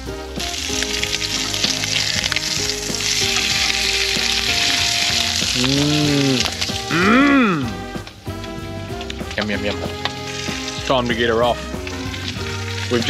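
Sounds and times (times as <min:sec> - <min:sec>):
lobster tail sizzling in a pan: 0:00.0 - 0:13.0.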